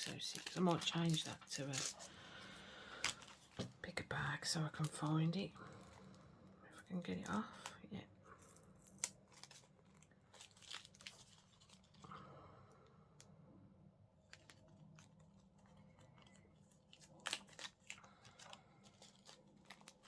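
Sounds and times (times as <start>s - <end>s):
plastic bags crinkling: 0.0s - 7.8s, 8.4s - 12.1s, 14.2s - 20.0s.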